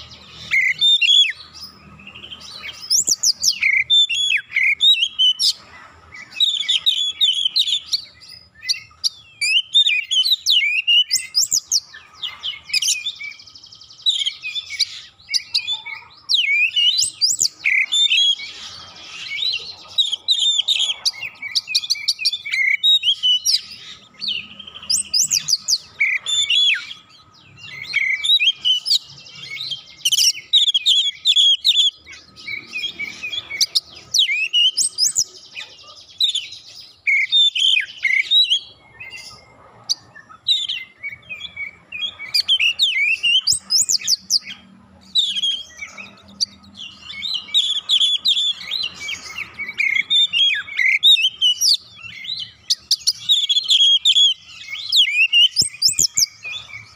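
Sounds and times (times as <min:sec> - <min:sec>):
songbird singing whistles and trills: 0:00.0 - 0:56.9.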